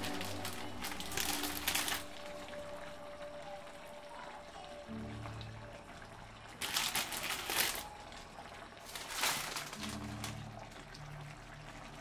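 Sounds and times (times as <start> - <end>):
broth simmering in a pan: 0.0 - 12.0.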